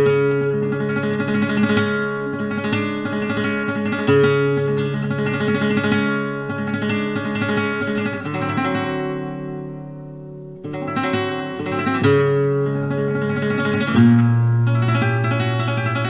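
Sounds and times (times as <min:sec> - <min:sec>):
flamenco acoustic guitar strumming: 0:00.0 - 0:16.0.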